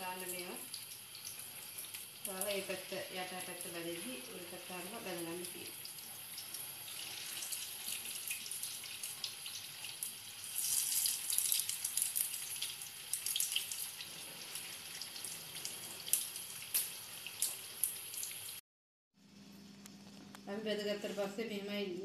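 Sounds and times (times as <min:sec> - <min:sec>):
patties sizzling in hot oil: 0:00.0 - 0:18.6.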